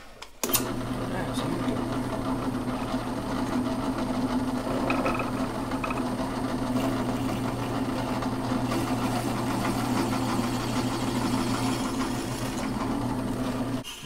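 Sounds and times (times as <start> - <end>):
drill press boring wood: 0.4 - 14.0.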